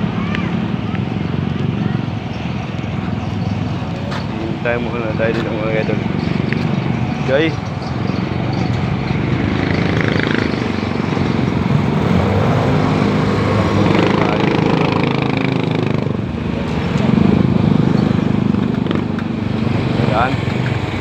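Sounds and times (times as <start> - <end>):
motorcycles: 0.0 - 21.0
vehicle engines: 0.0 - 21.0.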